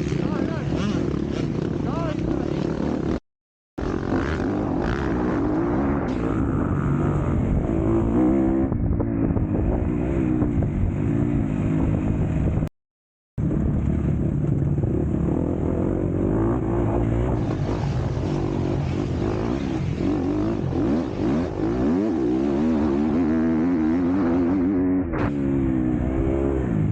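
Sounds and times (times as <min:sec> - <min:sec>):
motocross bike engine revving: 0:00.0 - 0:03.2, 0:03.8 - 0:12.7, 0:13.4 - 0:26.9.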